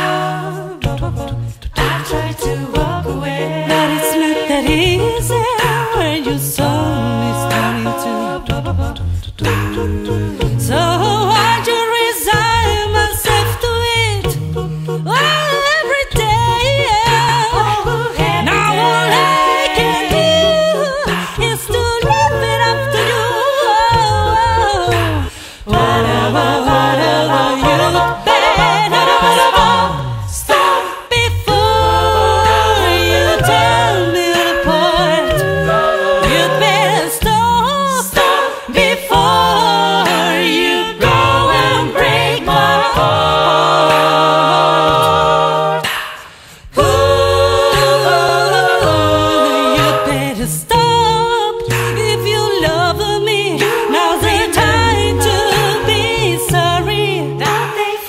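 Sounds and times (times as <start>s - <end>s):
a cappella vocal ensemble singing: 0.0s - 58.0s.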